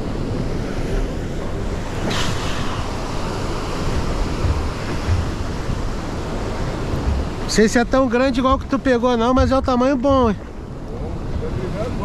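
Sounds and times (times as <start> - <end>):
sea surf washing on shore: 0.0 - 12.0
wind buffeting microphone: 0.0 - 12.0.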